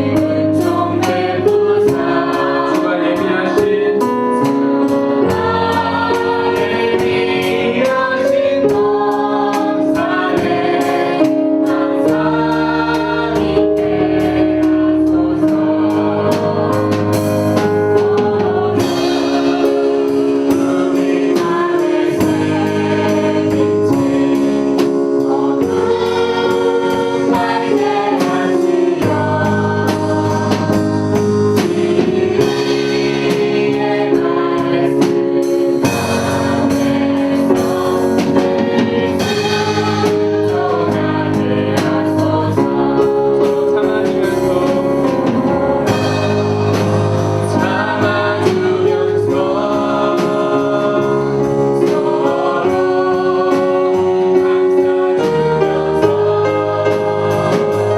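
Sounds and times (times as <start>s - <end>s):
bass line: 0.0s - 53.4s
choir singing gospel song: 0.0s - 57.9s
drum beat: 0.1s - 50.9s.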